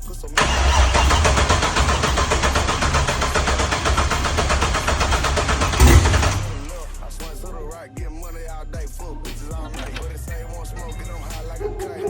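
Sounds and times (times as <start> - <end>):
pickup engine starting and running: 0.0 - 7.6, 9.0 - 12.0.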